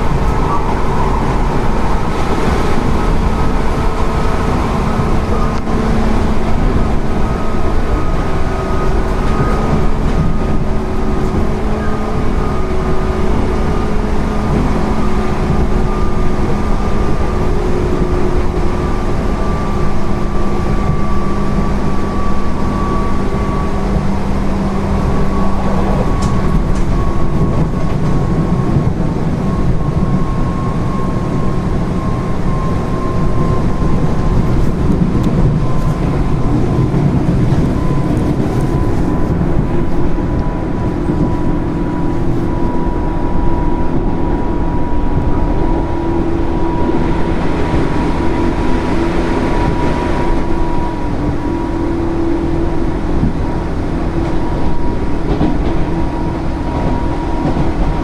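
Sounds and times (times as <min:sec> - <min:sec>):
traction motor whine: 0:00.0 - 0:58.0
train wheels rumbling on track: 0:00.0 - 0:58.0.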